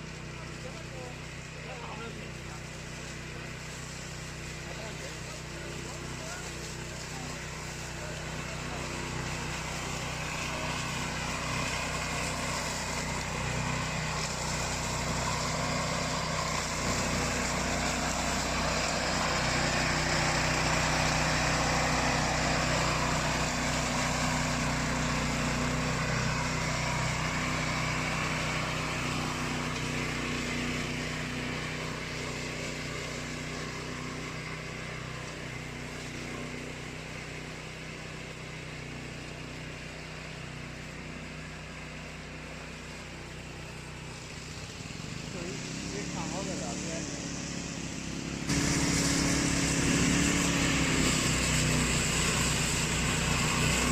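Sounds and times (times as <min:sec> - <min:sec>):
mower engine running: 0:00.0 - 0:53.9.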